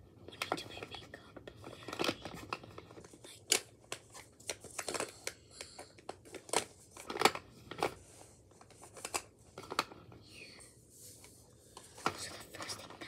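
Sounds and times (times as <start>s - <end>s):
rustling and crinkling: 0.2s - 13.0s.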